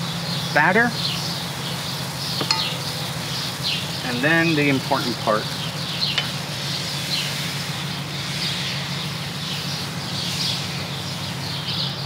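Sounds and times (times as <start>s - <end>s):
high falling bird chirps: 0.1s - 12.0s
steady low hum: 1.3s - 11.5s.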